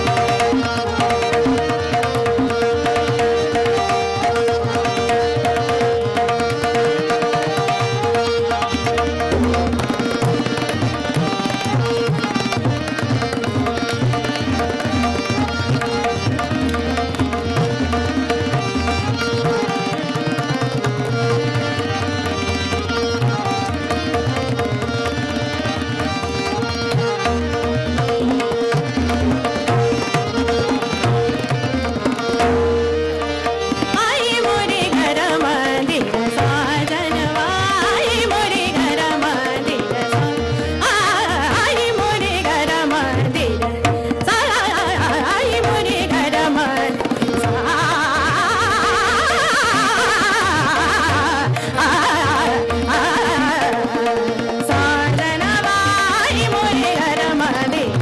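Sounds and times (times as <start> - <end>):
held harmonium note: 0.0 - 58.0
tabla playing: 0.0 - 58.0
tanpura drone: 0.0 - 58.0.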